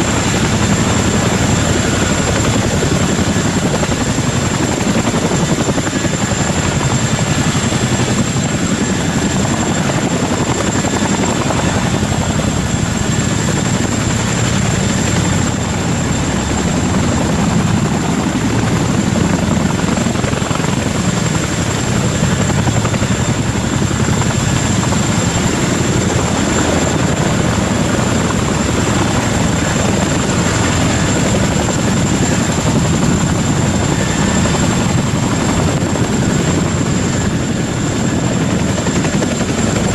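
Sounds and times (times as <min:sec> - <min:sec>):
helicopter rotor beat: 0:00.0 - 0:39.9.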